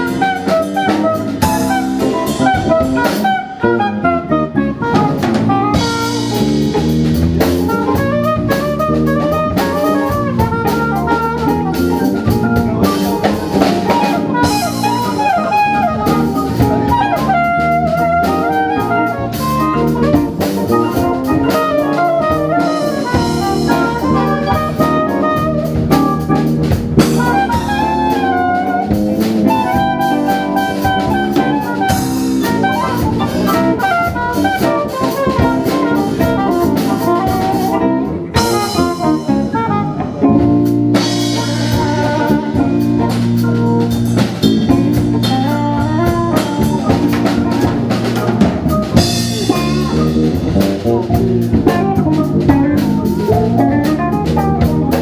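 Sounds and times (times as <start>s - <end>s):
drum kit: 0.0s - 55.0s
electric bass: 0.0s - 55.0s
electric guitar: 0.0s - 55.0s
keyboard: 0.0s - 55.0s
cymbals: 5.0s - 55.0s.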